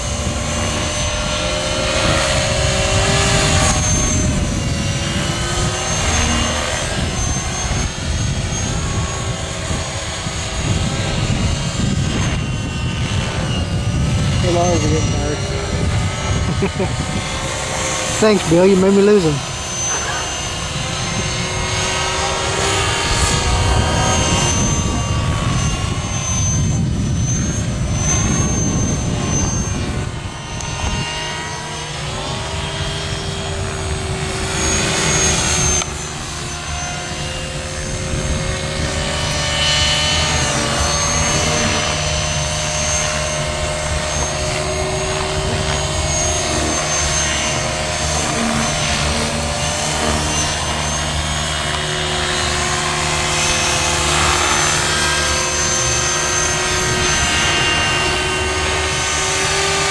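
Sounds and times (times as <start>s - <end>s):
rc helicopter motor whine: 0.0s - 59.9s
rotor blades chopping: 0.0s - 59.9s.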